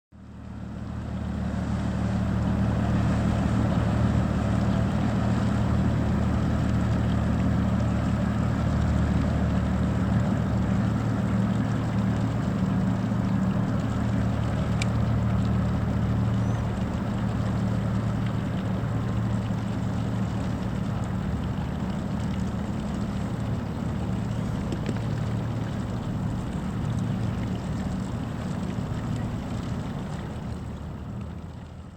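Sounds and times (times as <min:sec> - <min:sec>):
ship engine humming: 0:00.3 - 0:31.9
water wash noise: 0:00.3 - 0:31.9.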